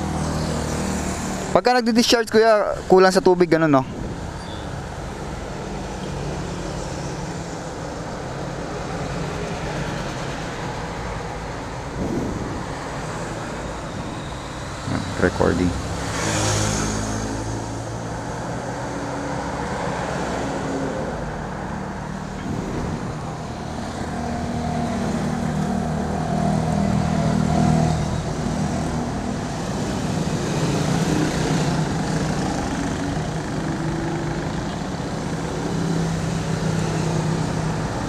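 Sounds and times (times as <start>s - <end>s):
vehicle engines passing: 0.0s - 38.0s.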